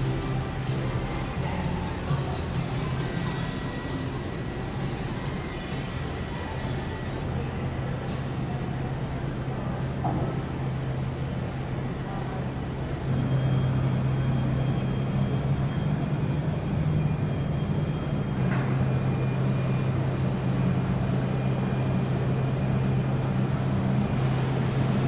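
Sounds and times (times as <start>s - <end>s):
ship machinery drone: 0.0s - 25.0s.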